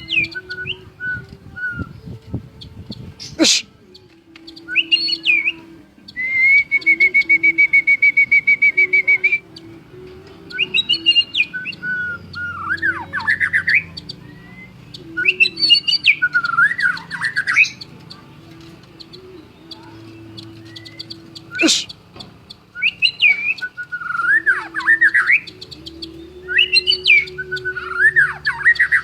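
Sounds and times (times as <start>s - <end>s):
bird singing whistled phrases: 0.0s - 29.0s.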